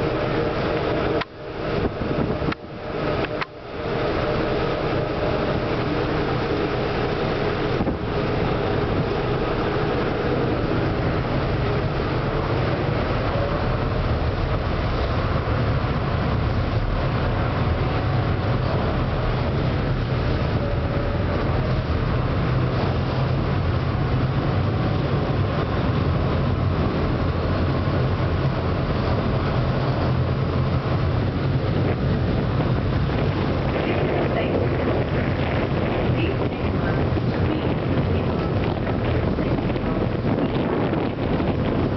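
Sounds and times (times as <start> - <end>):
boat engine running: 0.0 - 41.9
rush of water and air: 0.0 - 41.9.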